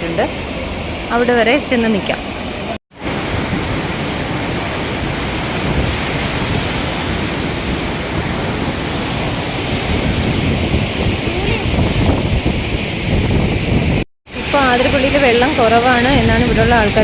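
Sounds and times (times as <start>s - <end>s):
waterfall crashing: 0.0s - 17.0s.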